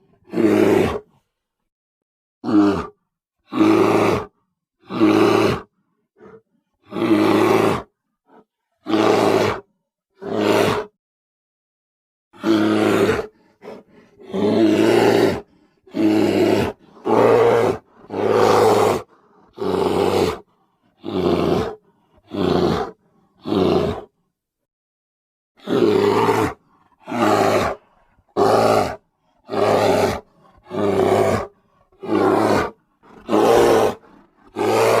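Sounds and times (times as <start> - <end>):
bear roaring: 0.0 - 1.1, 2.4 - 10.9, 12.4 - 24.1, 25.6 - 35.0.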